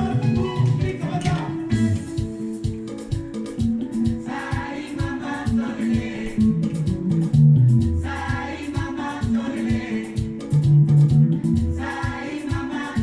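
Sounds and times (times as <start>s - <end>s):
bass guitar: 0.0s - 13.0s
person singing: 0.0s - 13.0s
plucked guitar: 0.0s - 13.0s
steady beat: 0.0s - 13.0s.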